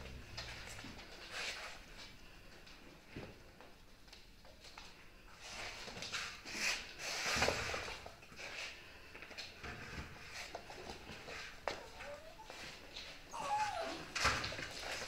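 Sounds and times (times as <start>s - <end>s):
puppies scuffling and rustling: 0.0s - 15.0s.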